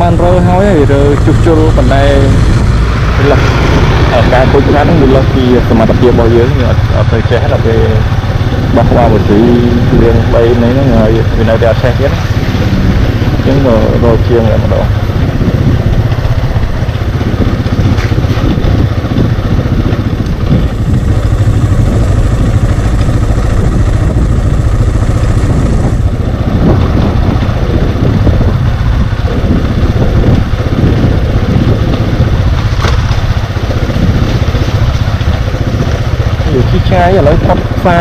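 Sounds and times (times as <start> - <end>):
motorcycle engine rumbling: 0.0 - 38.0.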